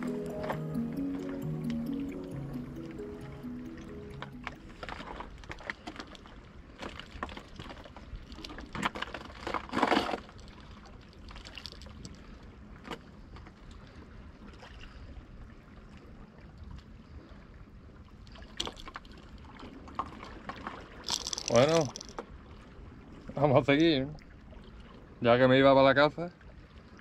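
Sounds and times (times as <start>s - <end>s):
waves lapping against rocks: 4.8s - 27.0s.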